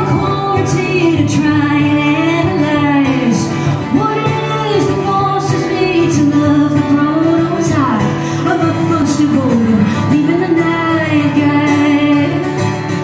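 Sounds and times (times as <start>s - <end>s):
acoustic guitar: 0.0s - 13.0s
woman singing: 0.0s - 13.0s.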